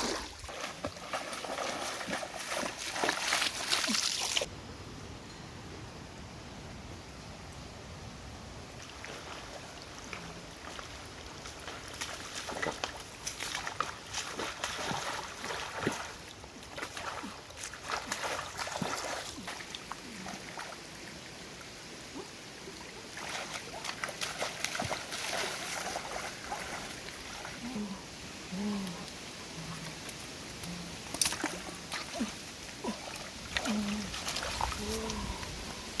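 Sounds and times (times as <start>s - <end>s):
water splashing and trickling: 0.0s - 4.5s, 8.6s - 36.0s
low rush of water: 0.0s - 36.0s.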